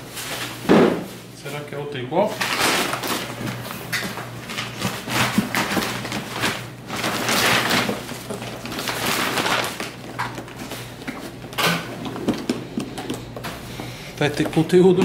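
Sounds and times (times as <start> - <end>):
paper rustling and crinkling: 2.3 - 15.0.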